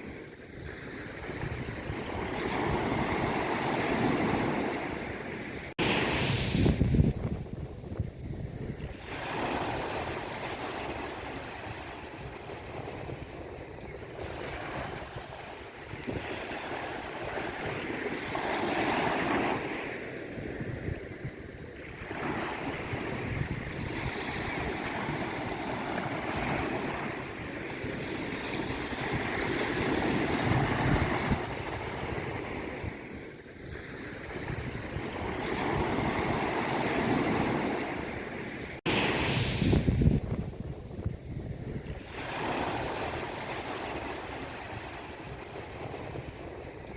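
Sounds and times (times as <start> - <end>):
sea waves breaking on shore: 0.0 - 46.9.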